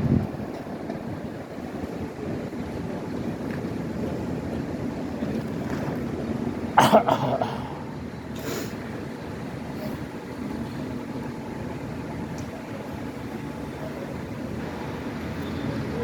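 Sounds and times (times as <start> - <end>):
tram rumbling along track: 0.0 - 16.0.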